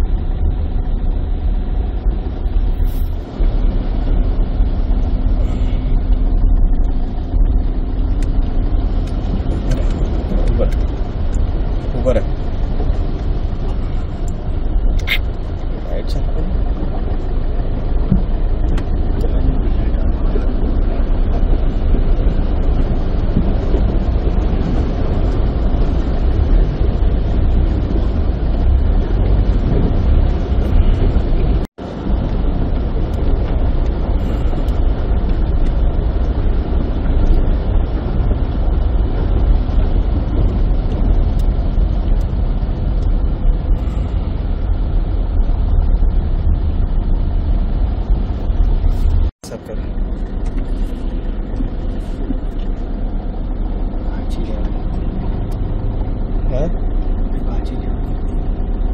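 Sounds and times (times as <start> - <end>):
low rumbling street noise: 0.0 - 58.9.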